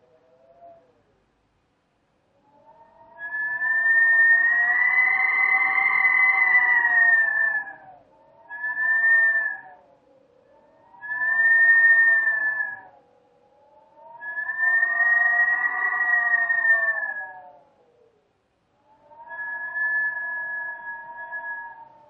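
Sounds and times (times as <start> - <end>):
howling wind: 0.0 - 1.3, 2.1 - 22.0.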